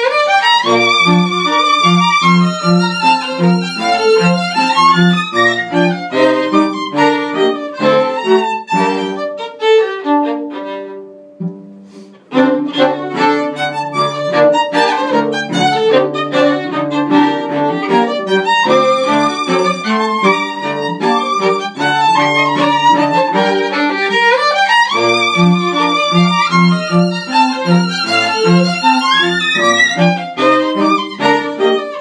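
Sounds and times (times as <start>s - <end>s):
string trio playing: 0.0s - 32.0s.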